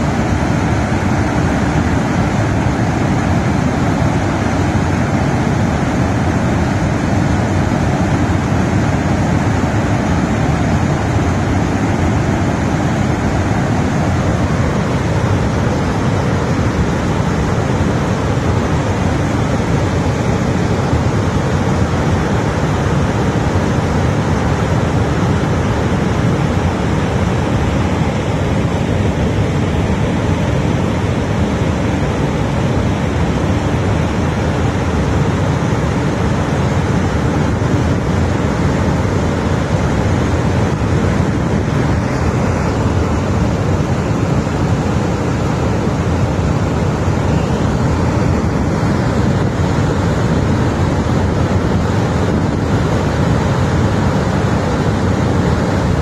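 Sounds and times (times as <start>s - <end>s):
water rushing through spillway: 0.0s - 56.0s.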